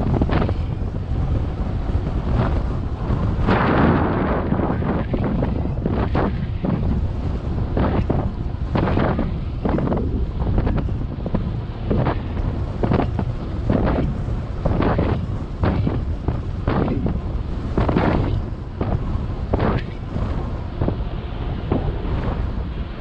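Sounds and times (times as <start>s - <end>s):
wind buffeting camera microphone: 0.0s - 23.0s.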